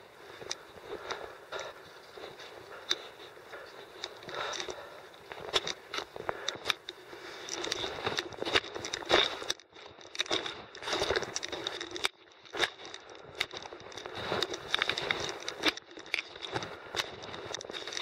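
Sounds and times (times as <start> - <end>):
scraping footsteps with clicks: 0.0 - 18.0.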